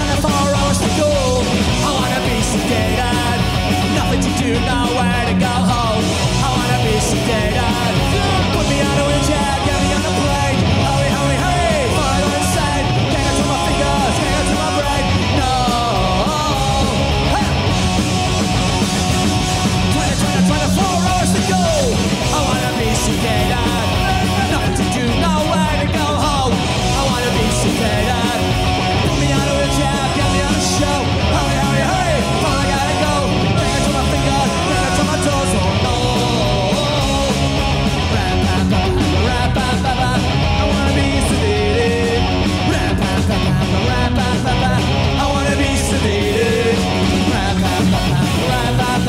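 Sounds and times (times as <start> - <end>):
punk rock band playing live: 0.0 - 49.0
yelled singing: 0.0 - 49.0.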